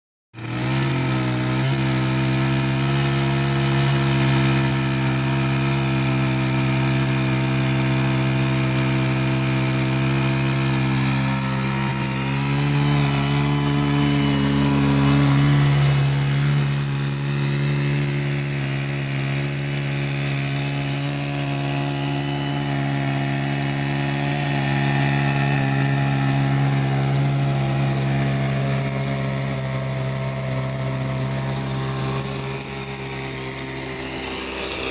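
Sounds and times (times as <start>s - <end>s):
chainsaw cutting through log: 0.3s - 34.9s.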